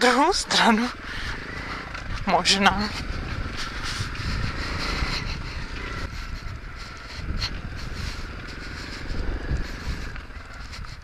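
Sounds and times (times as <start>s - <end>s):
low rumble: 0.0s - 11.0s
pit bike engine running: 0.0s - 11.0s.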